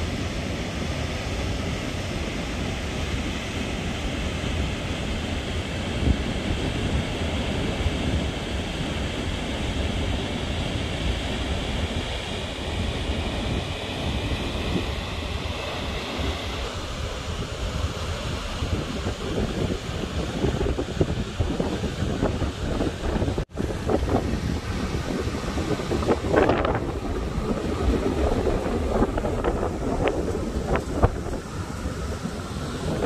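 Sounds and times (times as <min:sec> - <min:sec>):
large waterfall rushing: 0:00.0 - 0:33.0
wind gusting on microphone: 0:00.0 - 0:33.0.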